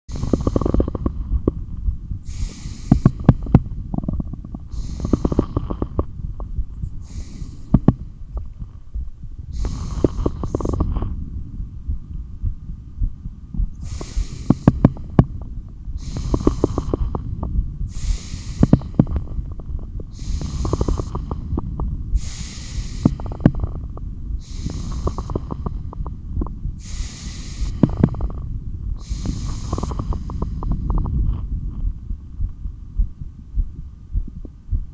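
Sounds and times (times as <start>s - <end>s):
quick breaths: 0.1s - 32.5s
pounding heartbeat: 0.1s - 34.9s.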